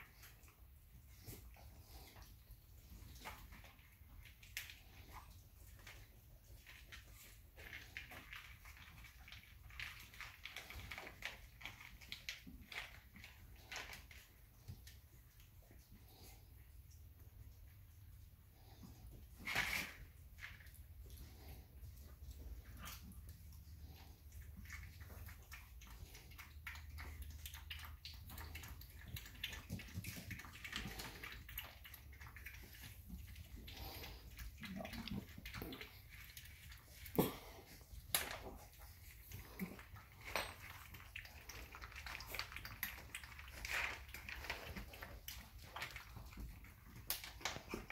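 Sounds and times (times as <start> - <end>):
dog licking puppies: 0.0 - 47.9.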